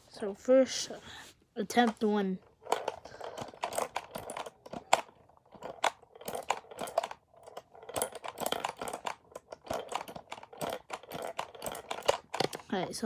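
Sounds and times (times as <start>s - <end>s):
plastic pinball clicks and clacks: 1.7s - 13.0s.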